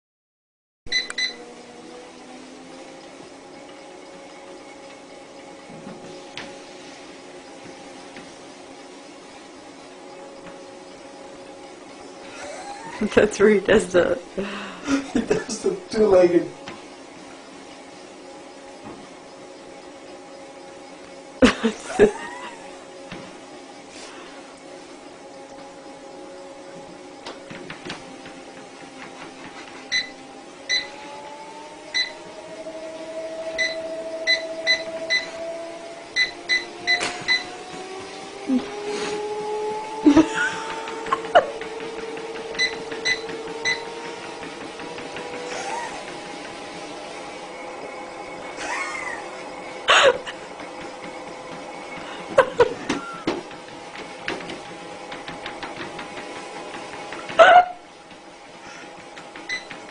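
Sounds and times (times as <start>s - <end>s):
treadmill motor hum: 0.9s - 59.9s.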